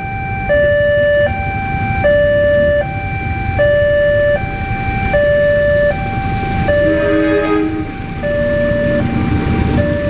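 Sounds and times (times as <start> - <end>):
level crossing two-tone alarm: 0.0 - 10.0.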